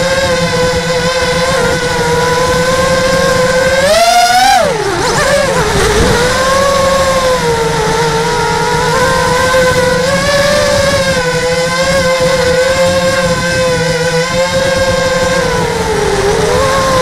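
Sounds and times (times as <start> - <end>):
motor and propeller whine: 0.0 - 17.0
wind rumble: 0.0 - 17.0.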